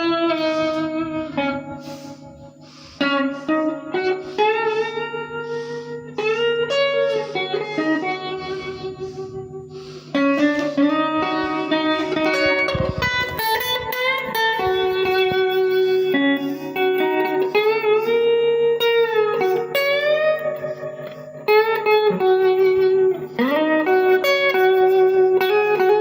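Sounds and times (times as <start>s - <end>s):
electric guitar with reverb: 0.0s - 26.0s.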